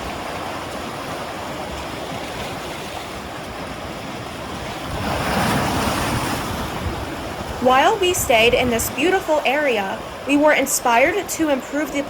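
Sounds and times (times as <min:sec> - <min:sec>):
surf washing onto shore: 0:00.0 - 0:12.0.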